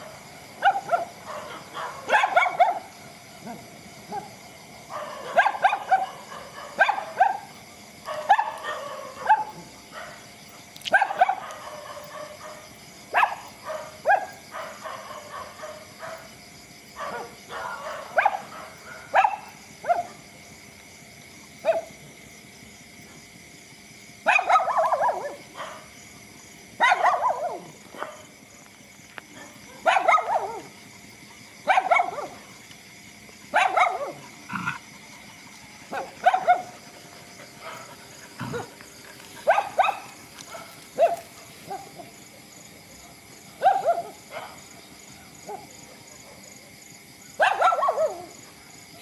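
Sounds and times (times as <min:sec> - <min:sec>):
dogs barking: 0:00.0 - 0:20.4, 0:21.6 - 0:22.0, 0:24.2 - 0:28.5, 0:29.2 - 0:49.0.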